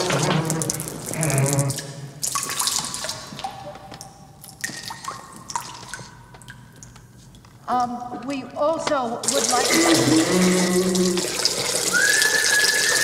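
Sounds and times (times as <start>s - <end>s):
man urinating into a urinal: 0.0s - 7.2s, 9.2s - 13.0s.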